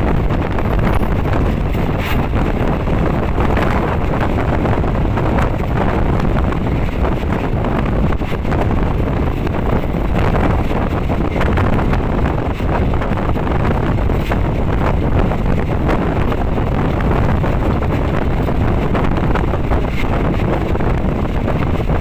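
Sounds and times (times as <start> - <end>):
train running rumble: 0.0 - 22.0
wind buffeting microphone: 0.0 - 22.0.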